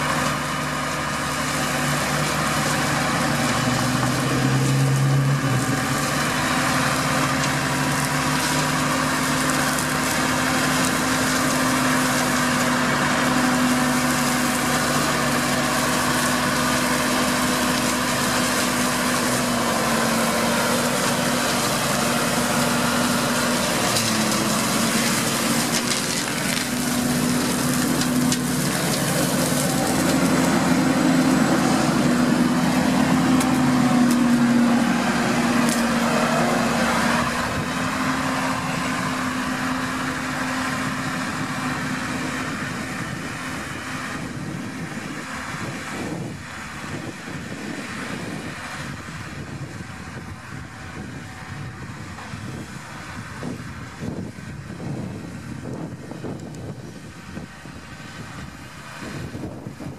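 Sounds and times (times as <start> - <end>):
flail hedge-cutter cutting grass: 0.0 - 59.9
tractor diesel engine under load: 0.0 - 59.9.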